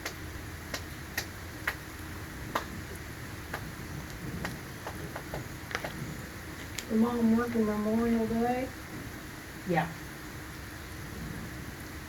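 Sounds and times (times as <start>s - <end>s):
large raindrops ticking on a surface: 0.0s - 12.0s
steady rain: 0.0s - 12.0s.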